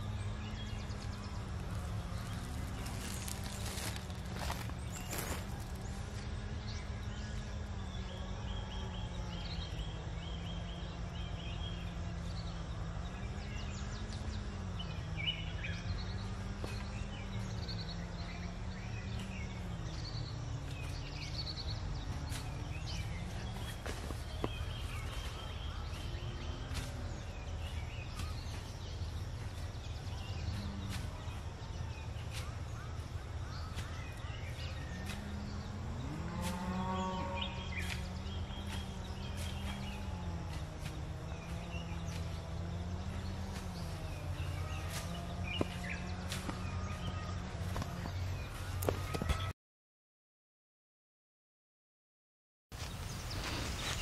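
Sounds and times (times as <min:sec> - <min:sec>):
birds chirping: 0:00.0 - 0:49.5, 0:52.8 - 0:54.0.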